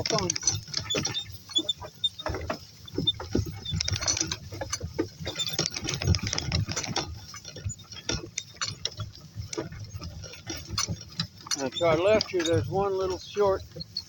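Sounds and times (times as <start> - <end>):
cart and harness rattling: 0.0 - 14.0.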